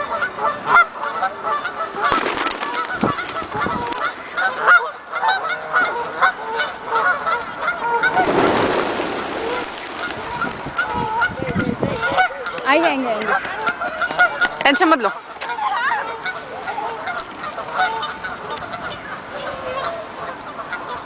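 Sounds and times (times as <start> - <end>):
water birds calling: 0.0 - 21.0.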